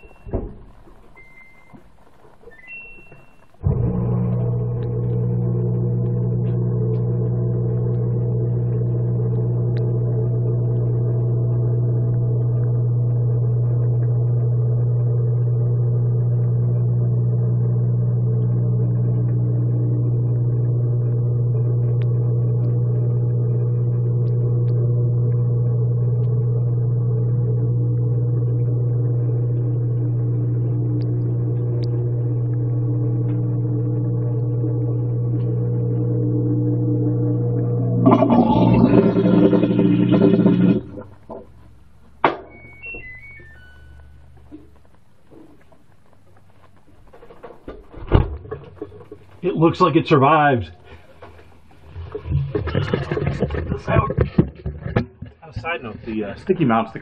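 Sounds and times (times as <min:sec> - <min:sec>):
washing machine humming: 0:00.0 - 0:54.1.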